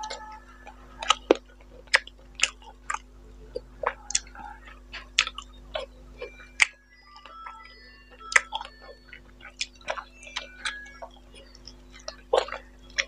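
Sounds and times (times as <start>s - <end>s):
wet chewing and lip smacks: 0.0s - 13.0s.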